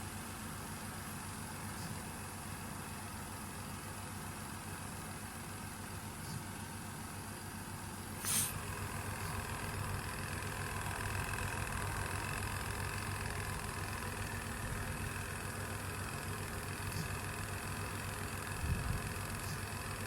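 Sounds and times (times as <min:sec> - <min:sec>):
laundry machine motor humming: 0:01.0 - 0:20.0.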